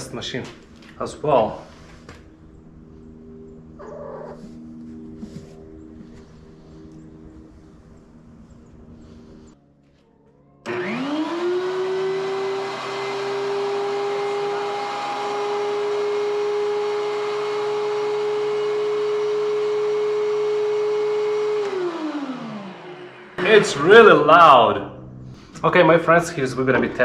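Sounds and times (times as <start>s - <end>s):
thickness planer high whine: 1.6s - 27.0s.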